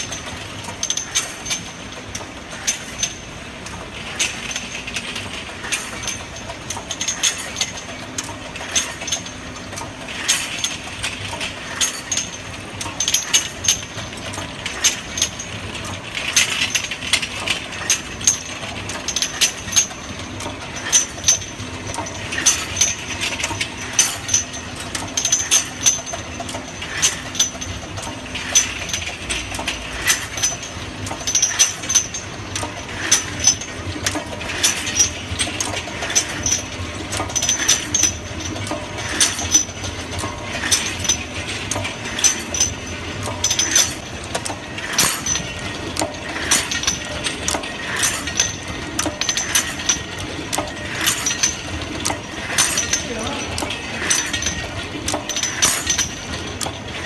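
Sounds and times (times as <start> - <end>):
mechanical clacks and clinks: 0.0 - 57.0
steady machine hum: 0.0 - 57.0.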